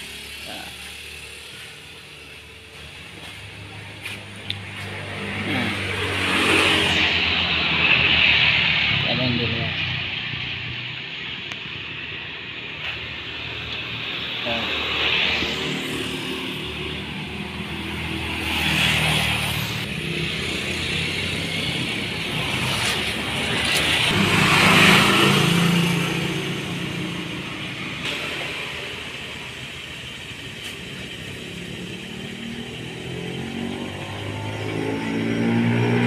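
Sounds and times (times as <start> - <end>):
vehicles passing on road: 0.0 - 36.0.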